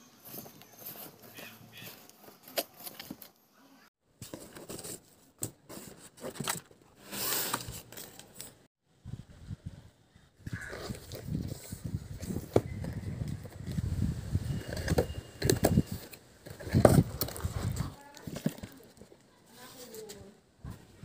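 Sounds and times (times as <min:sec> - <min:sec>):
cardboard flaps rustling and scraping: 0:00.2 - 0:03.3, 0:04.2 - 0:08.6, 0:10.7 - 0:20.1.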